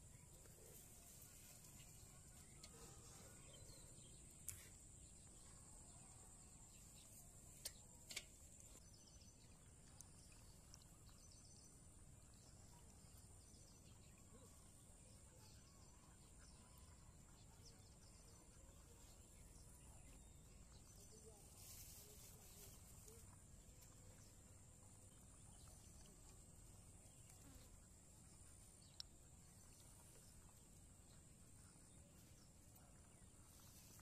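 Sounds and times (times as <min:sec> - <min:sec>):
faint chirps: 0:00.0 - 0:34.0.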